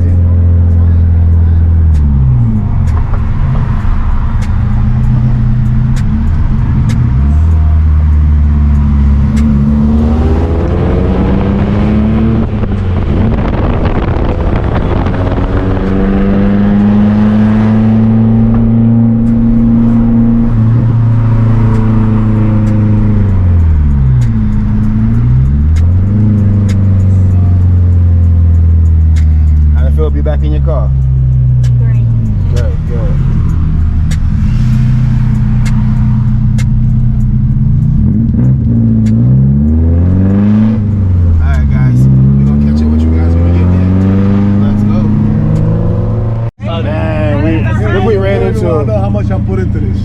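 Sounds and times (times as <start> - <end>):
car engine accelerating: 0.0 - 50.0.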